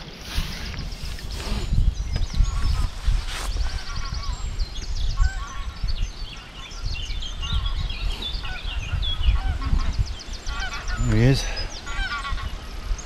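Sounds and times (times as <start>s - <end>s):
birds chirping and trilling: 0.0s - 13.0s
wind buffeting microphone: 0.0s - 13.0s.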